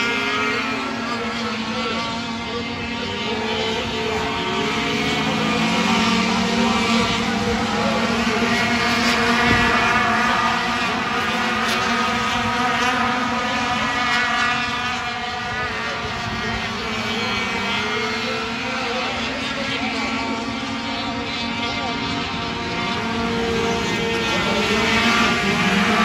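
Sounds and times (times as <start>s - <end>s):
racing truck engines droning: 0.0s - 26.0s.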